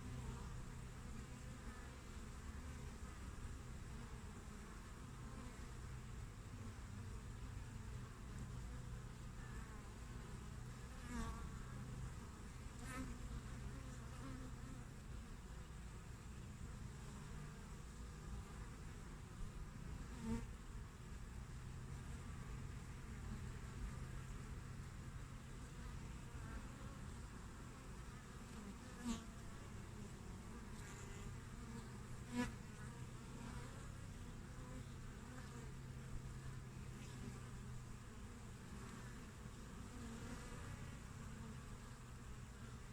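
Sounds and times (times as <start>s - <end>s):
close bee buzzes: 0.0s - 20.6s, 22.0s - 42.9s.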